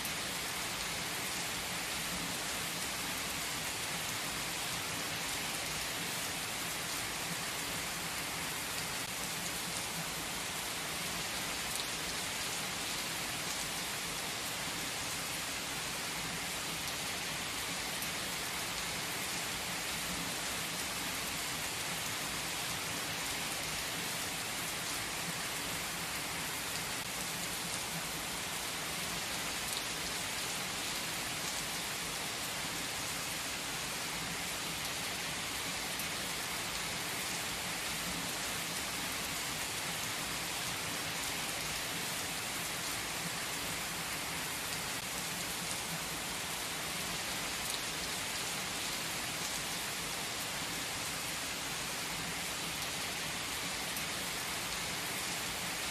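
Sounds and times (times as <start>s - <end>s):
heavy rain on asphalt and cars: 0.0s - 55.9s.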